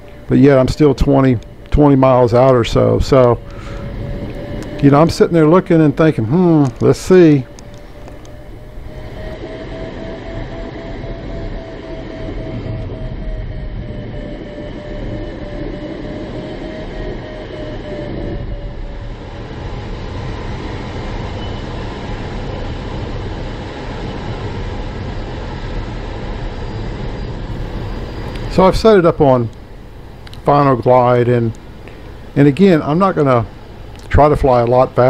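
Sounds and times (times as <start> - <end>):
rushing airflow in cockpit: 0.0 - 13.0, 13.6 - 35.0
faint steady tone: 0.0 - 35.0.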